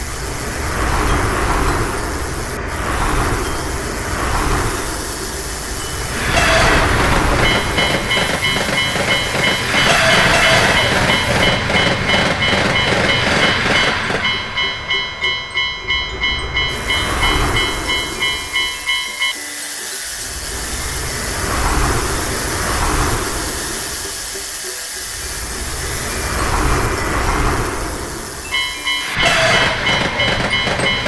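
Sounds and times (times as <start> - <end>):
level crossing bell ringing: 0.0 - 31.0
train rumbling and clattering: 0.0 - 31.0.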